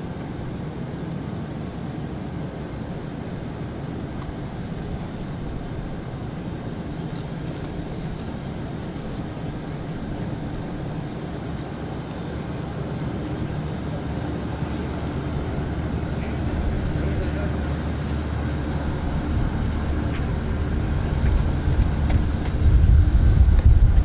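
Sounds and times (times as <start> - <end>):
faint high whine: 0.0 - 24.0
jet engine hum and hiss: 0.0 - 24.0.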